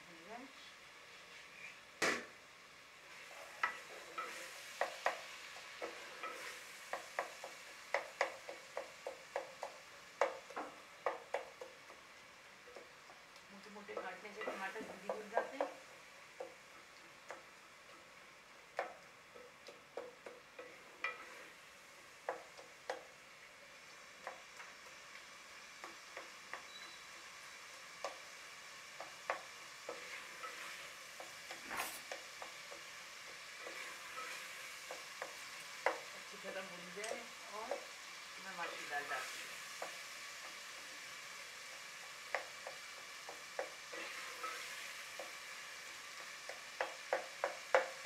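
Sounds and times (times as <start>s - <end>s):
sauce sizzling softly: 0.0s - 48.0s.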